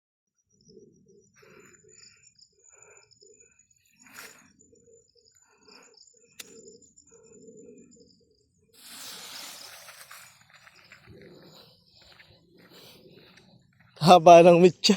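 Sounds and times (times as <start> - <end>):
birds chirping: 0.5 - 14.9.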